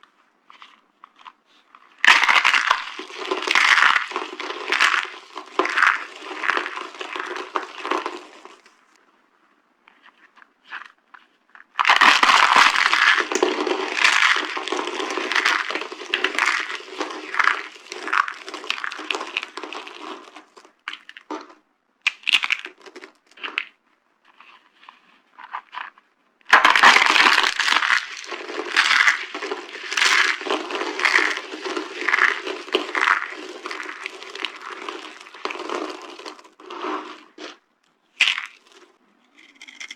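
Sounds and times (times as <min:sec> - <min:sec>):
soap crunching and crackling: 0:00.0 - 0:08.8, 0:09.9 - 0:39.9.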